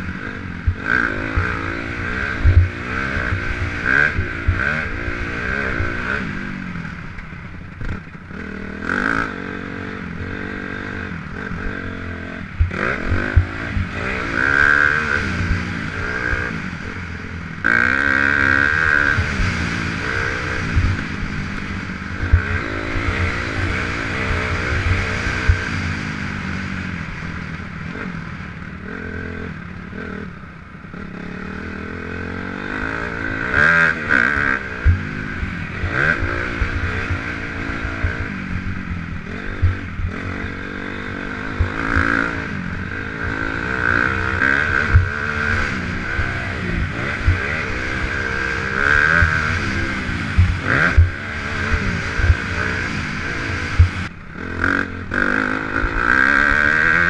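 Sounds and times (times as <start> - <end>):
off-road vehicle engine revving: 0.0 - 7.2, 7.8 - 27.2, 30.9 - 57.0.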